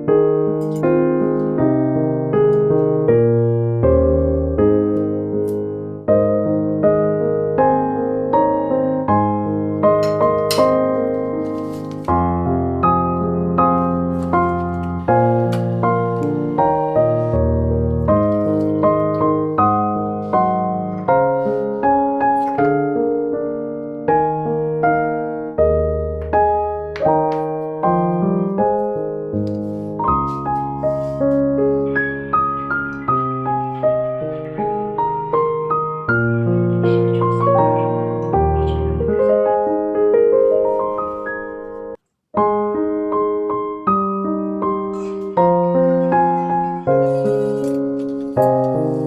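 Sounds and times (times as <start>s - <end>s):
gentle piano chords: 0.0s - 49.0s.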